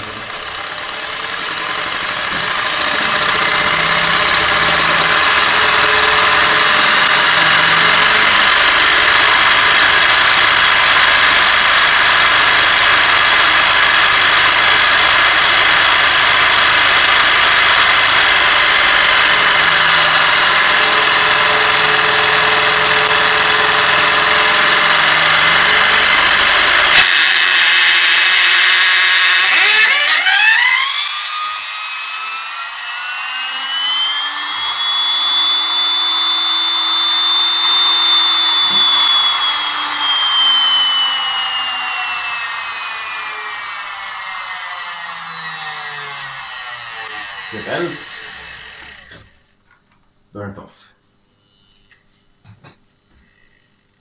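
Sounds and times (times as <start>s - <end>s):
electric motor high-speed whine: 0.0s - 49.5s.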